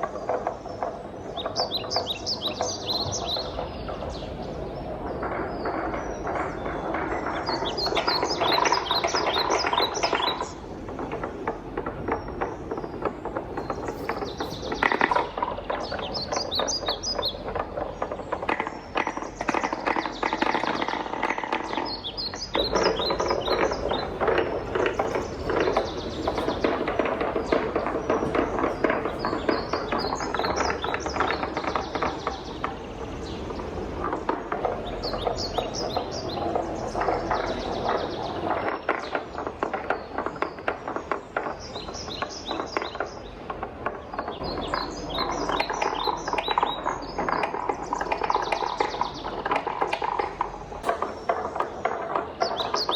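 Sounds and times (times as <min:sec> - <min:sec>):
wooden balls rattling down track: 0:00.0 - 0:52.9.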